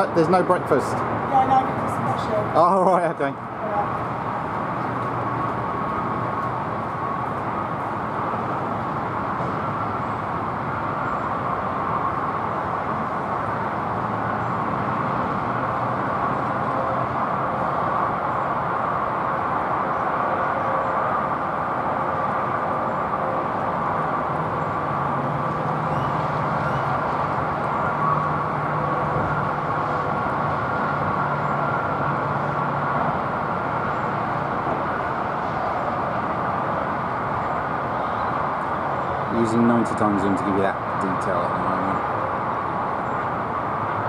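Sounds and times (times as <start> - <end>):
distant jet rushing and whining: 0.0 - 44.0.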